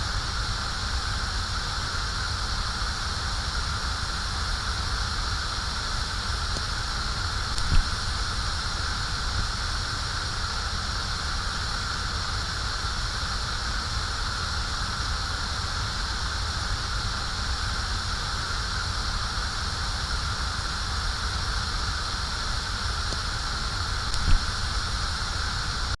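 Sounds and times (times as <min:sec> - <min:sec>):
gas flame hissing: 0:00.2 - 0:26.0.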